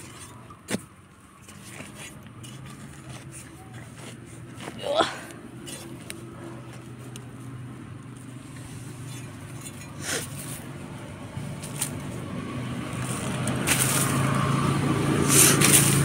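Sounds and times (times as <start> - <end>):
hands digging in dry soil: 0.0 - 16.0.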